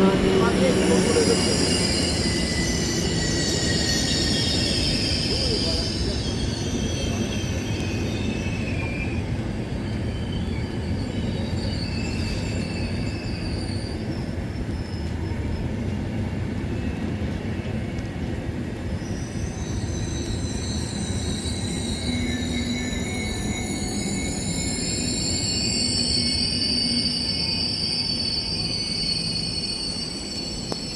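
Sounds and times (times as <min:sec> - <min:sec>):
metallic wheel squeals: 0:00.0 - 0:16.0, 0:19.0 - 0:30.9
train rumbling: 0:00.0 - 0:30.9.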